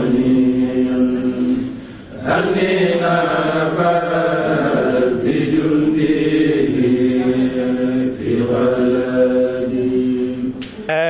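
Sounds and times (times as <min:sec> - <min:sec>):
men chanting in unison: 0:00.0 - 0:10.6.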